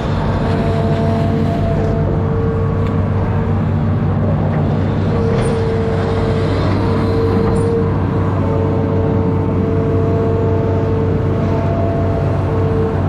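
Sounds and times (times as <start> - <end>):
excavator diesel engine running: 0.0 - 13.0
steady whine: 0.0 - 13.0.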